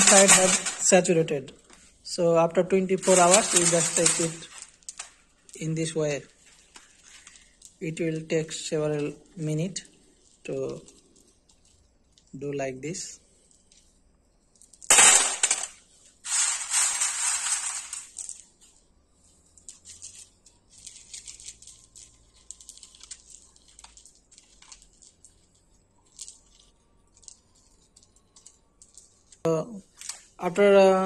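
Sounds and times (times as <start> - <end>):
stone chips rustling in cloth: 0.0 - 31.0.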